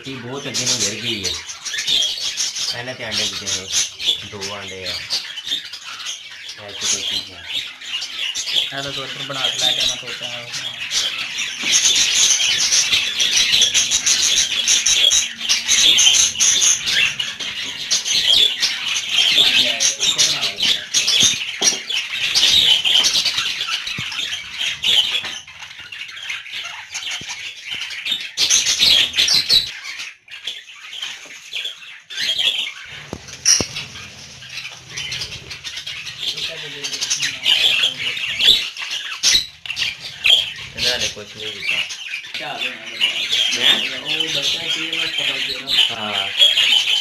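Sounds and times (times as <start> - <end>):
budgerigars chattering and chirping: 0.0 - 47.0.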